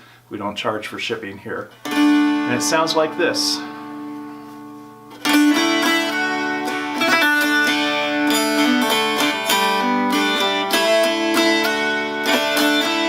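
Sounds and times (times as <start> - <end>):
dulcimer drone strings: 1.8 - 13.0
dulcimer plucked notes: 1.8 - 13.0.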